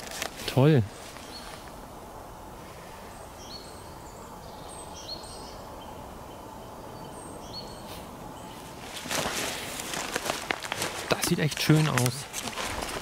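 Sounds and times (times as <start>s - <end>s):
low background hiss: 0.0s - 13.0s
songbirds calling: 0.0s - 13.0s.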